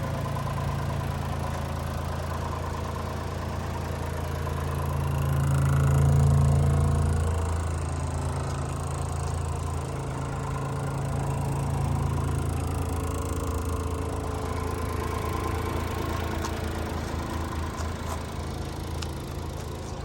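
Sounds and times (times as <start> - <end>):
small truck engine idling: 0.0 - 20.0.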